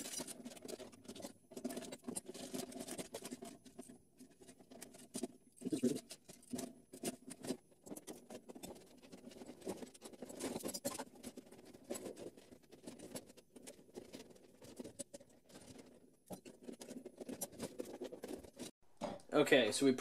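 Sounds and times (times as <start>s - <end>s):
plastic parts clicking and rattling: 0.0s - 19.3s.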